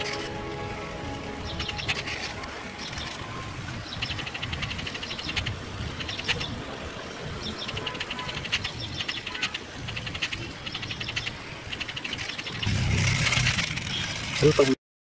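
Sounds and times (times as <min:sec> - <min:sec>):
steady low rumble: 0:00.0 - 0:13.9
rapid trilled calls: 0:00.0 - 0:14.7.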